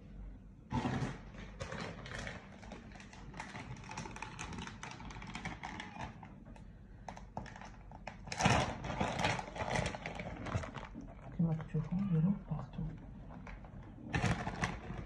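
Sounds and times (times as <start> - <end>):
small clicks and rustling: 0.8 - 12.0, 12.9 - 15.0.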